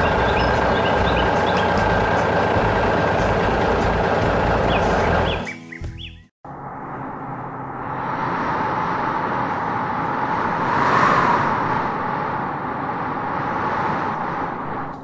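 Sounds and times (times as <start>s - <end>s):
rushing vehicle engine: 0.0s - 15.0s.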